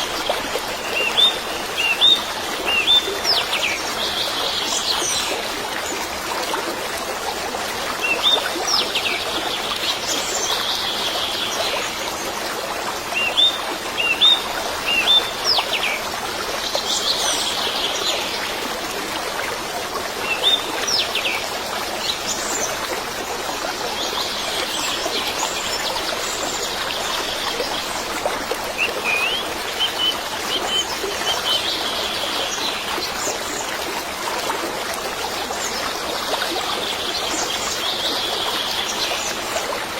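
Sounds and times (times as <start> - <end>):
trickle of flowing water: 0.0 - 39.9.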